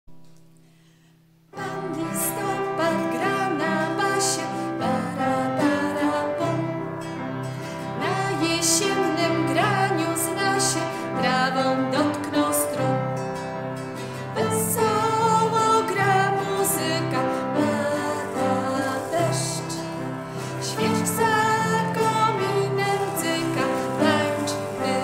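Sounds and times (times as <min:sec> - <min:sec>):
person singing children's song: 0:01.6 - 0:06.8, 0:08.0 - 0:13.0, 0:14.4 - 0:25.0
instrumental accompaniment: 0:01.6 - 0:25.0.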